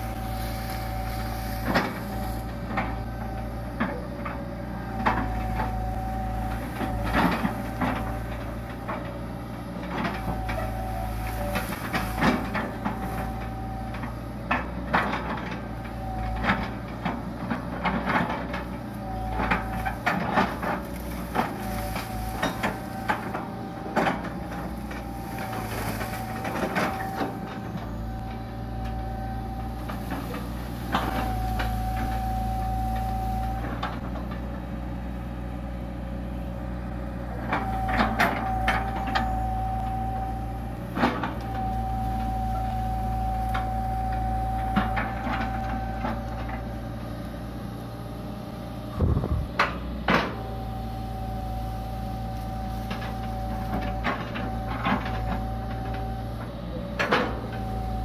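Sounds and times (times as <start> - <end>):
excavator diesel engine running: 0.0 - 58.0
hydraulic whine: 0.0 - 58.0.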